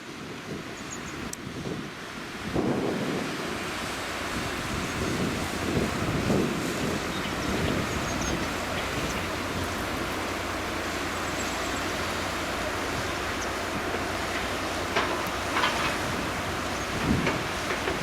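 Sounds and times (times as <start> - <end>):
wind buffeting microphone: 0.1 - 18.0.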